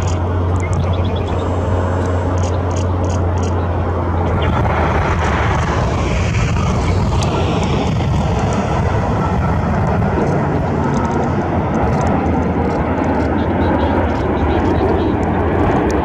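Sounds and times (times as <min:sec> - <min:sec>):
jet engine rumble: 0:00.0 - 0:16.0
jet engine whine: 0:00.0 - 0:16.0.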